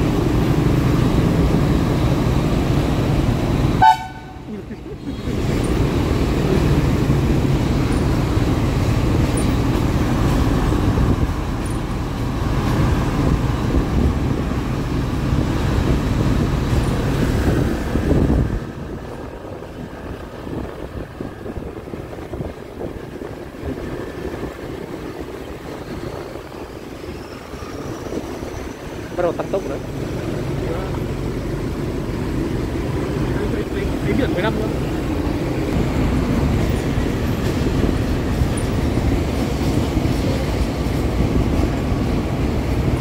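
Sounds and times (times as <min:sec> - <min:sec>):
locomotive engine rumbling: 0:00.0 - 0:43.0.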